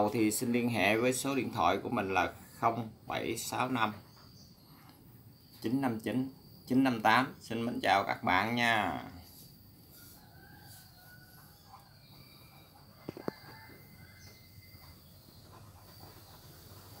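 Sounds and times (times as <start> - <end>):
distant bird calls: 0.0 - 17.0.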